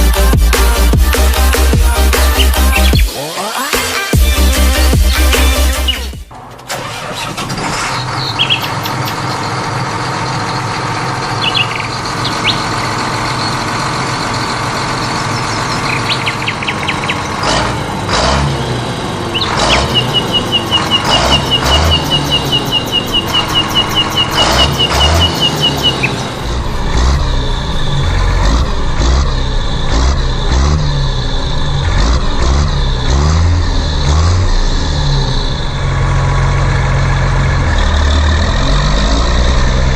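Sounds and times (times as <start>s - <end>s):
birds chirping: 0.0s - 39.9s
tractor engine running: 0.0s - 39.9s.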